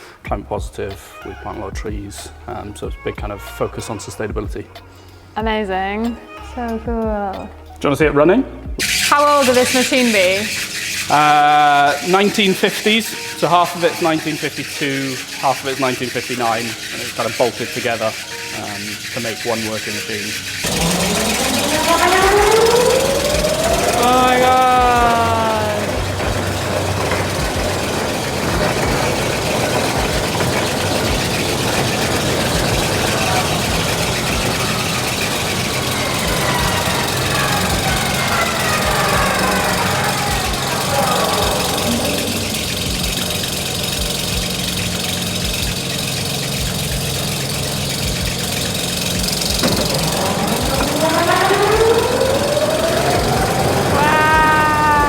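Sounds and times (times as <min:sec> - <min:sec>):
low mechanical knocks: 0:08.7 - 0:54.4
whine rising in pitch: 0:08.8 - 0:45.9, 0:46.5 - 0:55.0
yarn processing machine running: 0:08.8 - 0:55.0.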